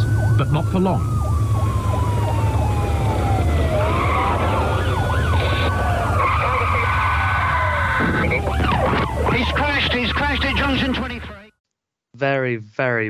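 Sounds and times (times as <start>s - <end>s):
low engine drone: 0.0s - 11.4s
police siren wailing: 0.0s - 11.5s.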